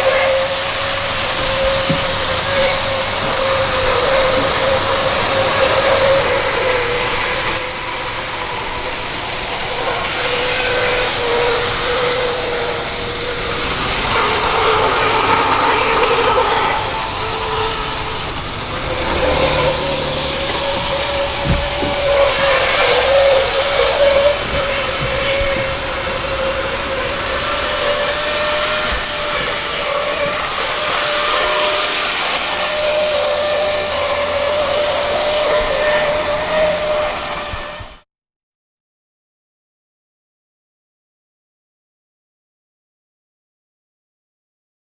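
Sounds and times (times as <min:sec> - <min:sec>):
model train motor whine: 0:00.0 - 0:38.0
steady hiss: 0:00.0 - 0:38.0.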